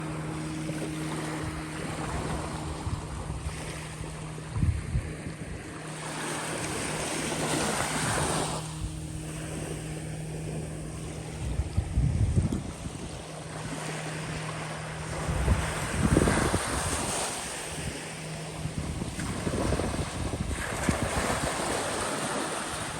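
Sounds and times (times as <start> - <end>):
small waves washing onto beach: 0.0 - 22.9
steady low hum: 0.0 - 22.9
wind buffeting microphone: 0.0 - 22.9.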